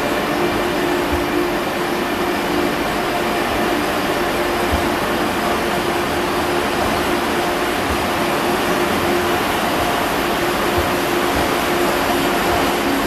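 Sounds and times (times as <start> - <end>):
electric train running slowly: 0.0 - 13.0.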